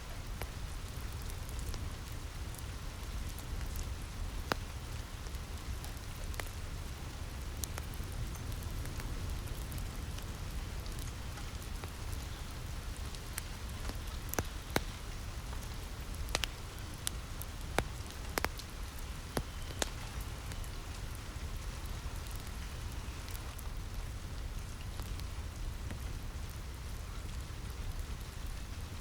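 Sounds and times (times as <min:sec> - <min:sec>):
rain falling on a roof: 0:00.0 - 0:29.0
wood fire crackling and popping: 0:00.1 - 0:29.0.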